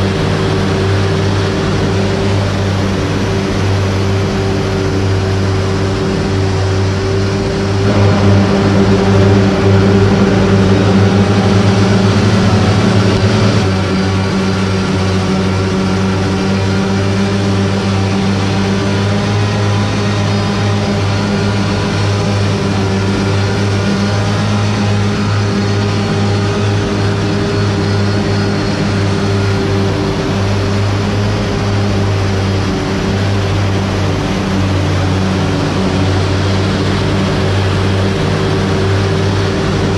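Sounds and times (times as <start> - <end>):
machinery drone with rushing noise: 0.0 - 39.9.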